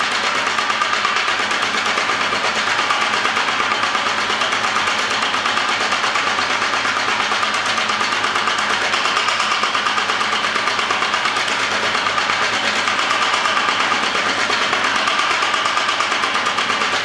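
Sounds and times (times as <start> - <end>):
power hammer striking: 0.0 - 17.0.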